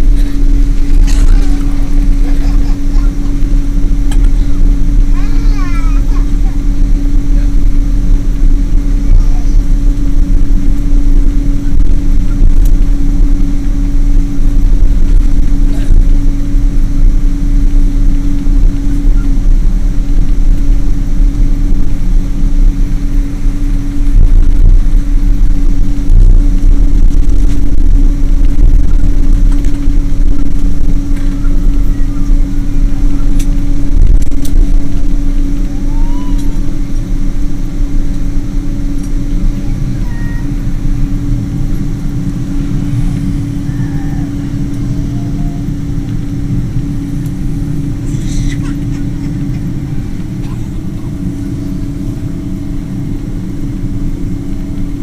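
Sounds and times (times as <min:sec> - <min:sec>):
constant hum: 0:00.0 - 0:55.0
jet engines running: 0:00.0 - 0:55.0.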